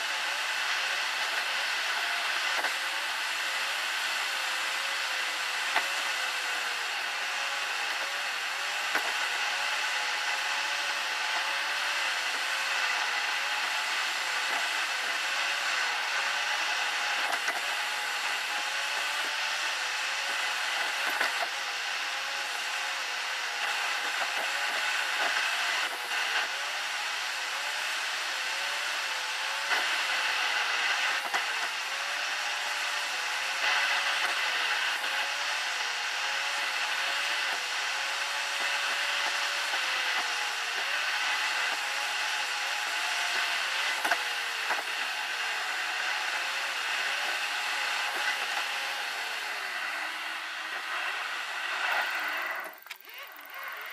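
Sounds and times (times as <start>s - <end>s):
road and tyre noise: 0.0s - 53.9s.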